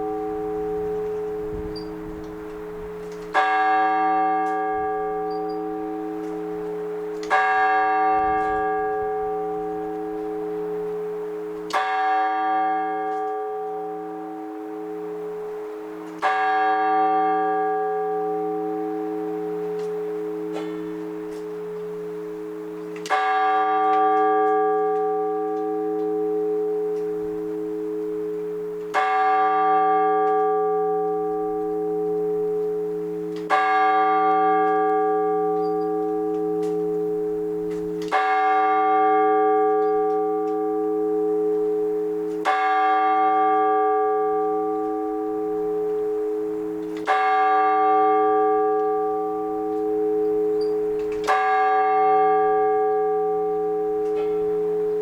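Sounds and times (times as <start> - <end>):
large church bell tolling: 0.0 - 55.0.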